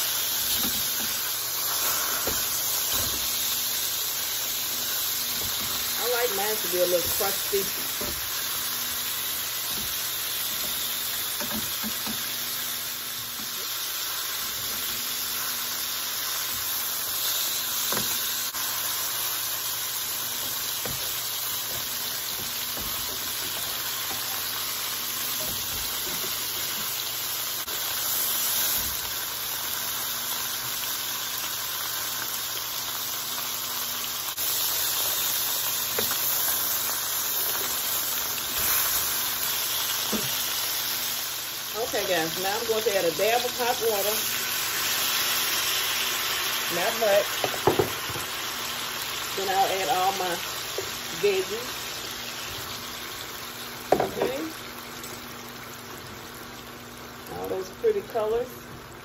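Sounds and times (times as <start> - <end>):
chicken sizzling in a skillet: 0.0 - 59.0.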